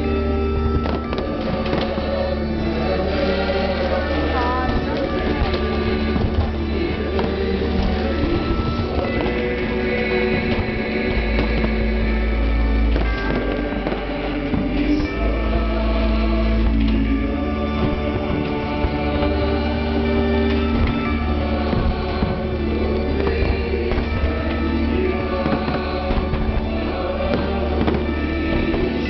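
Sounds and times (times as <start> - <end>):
fireworks popping and banging: 0.0 - 29.0
music with long held notes: 0.0 - 29.0.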